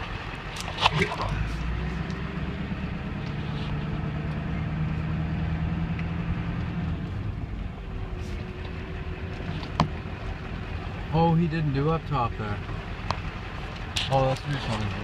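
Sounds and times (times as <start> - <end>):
tyres rumbling on dirt road: 0.0 - 15.0
vehicle engine running: 0.0 - 15.0.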